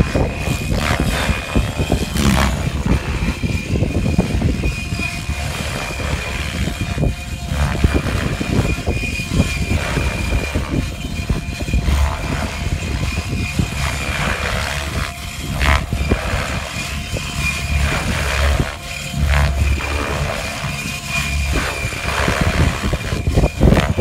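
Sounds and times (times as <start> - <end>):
rc helicopter motor whine: 0.0 - 24.0
rotor blades whooshing: 0.0 - 24.0.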